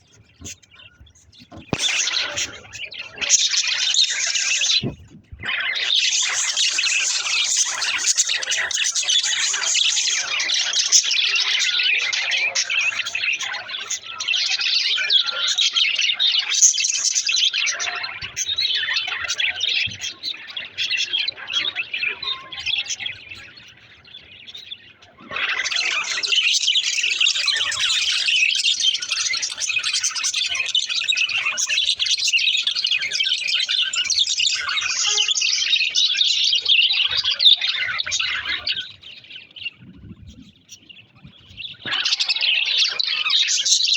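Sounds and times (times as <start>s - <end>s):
budgerigars chirping and chattering: 0.0s - 43.9s.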